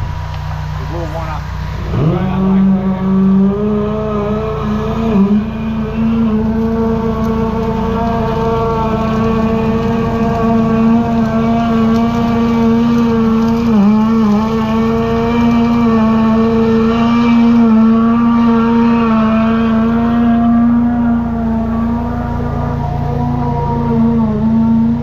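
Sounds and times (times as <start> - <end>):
drain jetter engine and pump: 0.0 - 25.0.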